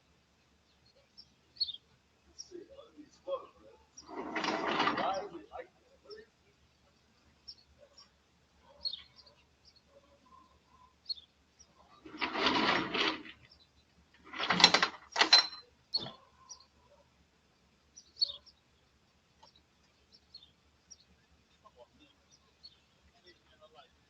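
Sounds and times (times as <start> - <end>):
small birds chirping: 0.0 - 4.2, 5.0 - 12.1, 13.3 - 14.2, 15.4 - 24.0.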